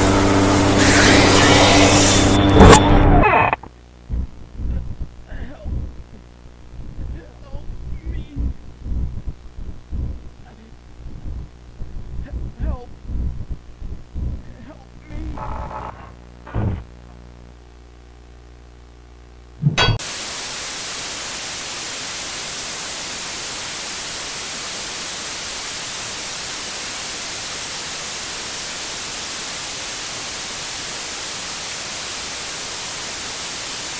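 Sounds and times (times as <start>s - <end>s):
low electrical hum: 0.0s - 33.9s
white-noise static hiss: 0.0s - 33.9s.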